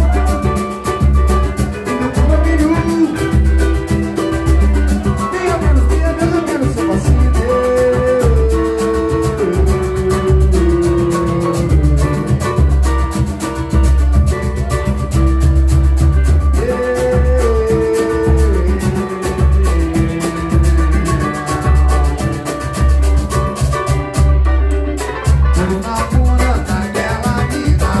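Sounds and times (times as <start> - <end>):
fast hand percussion: 0.0 - 28.0
held melody line: 0.0 - 28.0
live band playing: 0.0 - 28.0
strummed small guitar: 0.0 - 28.0.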